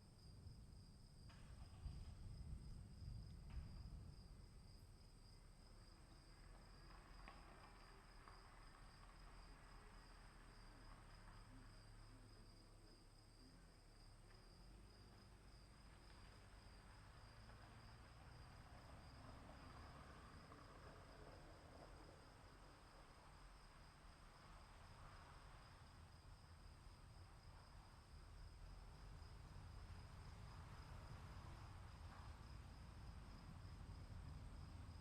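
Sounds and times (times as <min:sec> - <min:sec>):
high insect drone: 0:00.1 - 0:35.0.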